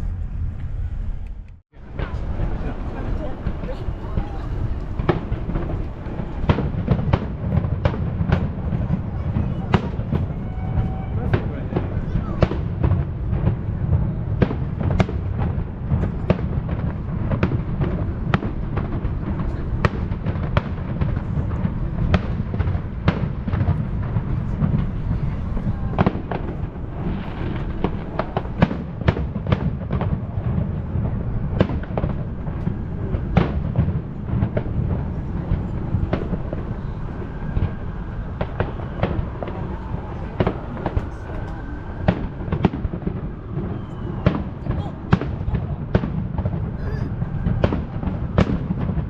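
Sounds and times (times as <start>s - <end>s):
fireworks sharp bangs: 1.8s - 49.0s.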